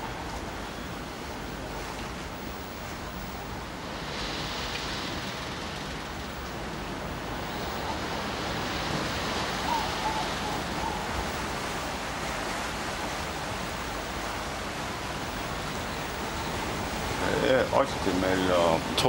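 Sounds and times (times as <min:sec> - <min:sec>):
sea waves rushing: 0:00.0 - 0:19.0
wind: 0:00.0 - 0:19.0.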